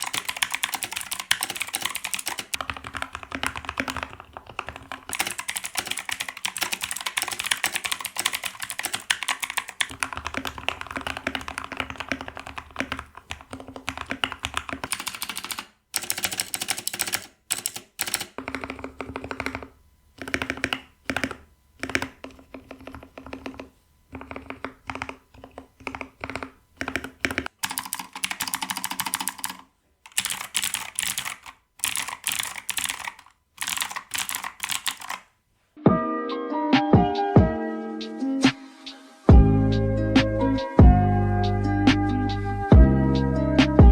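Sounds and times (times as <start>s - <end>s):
fast typing on keyboard: 0.0s - 35.3s.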